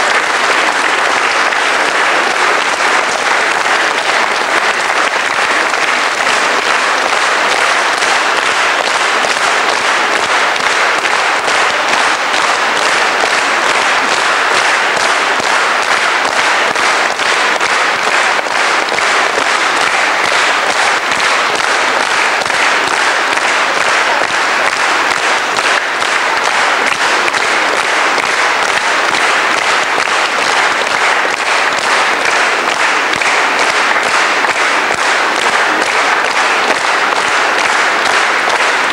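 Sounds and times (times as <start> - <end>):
congregation applauding: 0.0 - 38.9.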